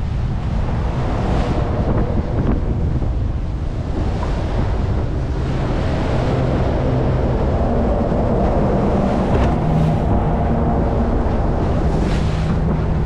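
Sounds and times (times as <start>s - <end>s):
water rushing: 0.0s - 13.0s
wind noise: 0.0s - 13.0s
motorboat engine running: 1.5s - 13.0s.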